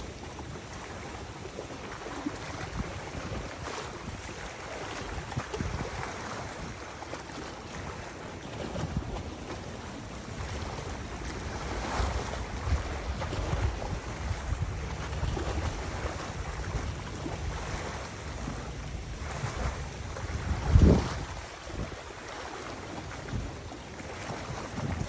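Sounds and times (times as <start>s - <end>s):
wind gusting against microphone: 0.0s - 25.0s
river water rushing: 1.8s - 25.0s.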